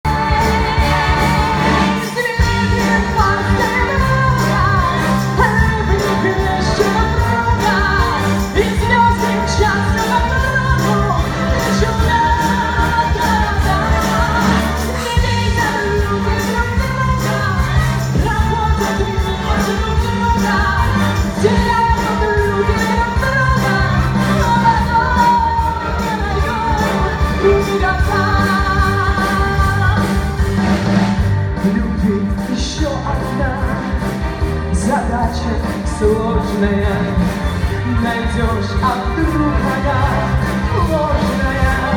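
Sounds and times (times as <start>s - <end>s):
live pop band music: 0.0s - 41.9s
melodic lead line: 0.0s - 41.9s
steady drum beat: 0.0s - 41.9s.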